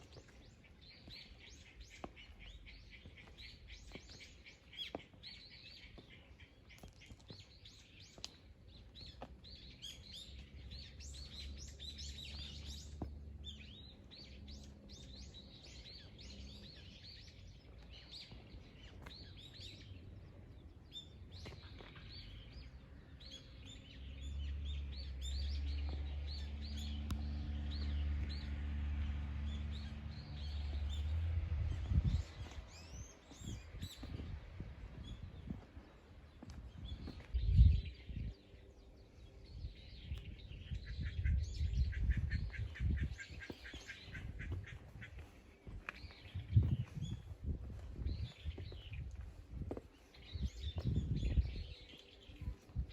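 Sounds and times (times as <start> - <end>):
small birds chirping: 0.0 - 28.6, 29.4 - 52.9.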